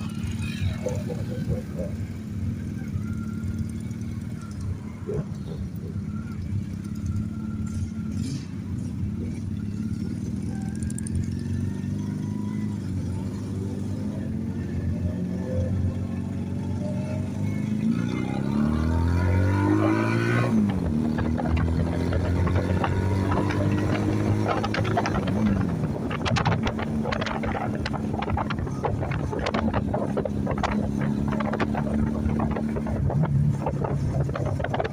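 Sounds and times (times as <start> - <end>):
motorcycle engines running: 0.0 - 34.9.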